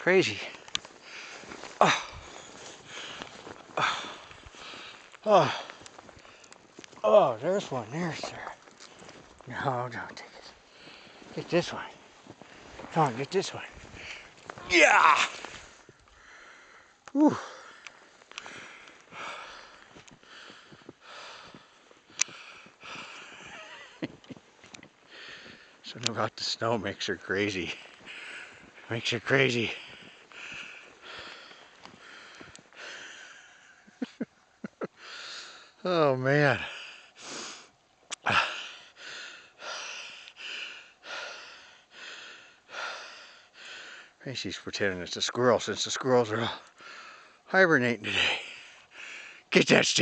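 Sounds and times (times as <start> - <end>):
heavy breathing: 0.2 - 7.0, 10.0 - 24.0, 25.0 - 26.0, 27.6 - 34.3, 34.9 - 35.8, 36.5 - 44.2, 46.3 - 49.5.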